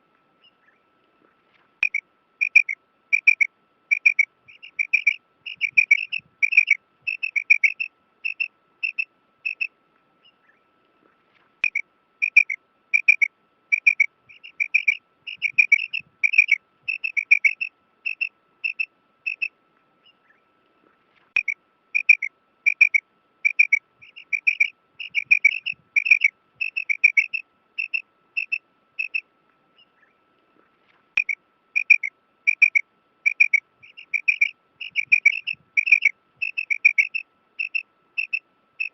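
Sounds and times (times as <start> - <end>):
faint steady whine: 0.0 - 38.9
quail chirping calls: 1.8 - 10.6, 11.6 - 20.4, 21.3 - 29.2, 31.2 - 38.9.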